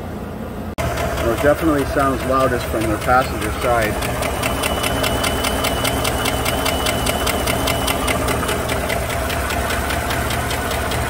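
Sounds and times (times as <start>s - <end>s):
engine running with valvetrain tick: 0.8s - 11.0s.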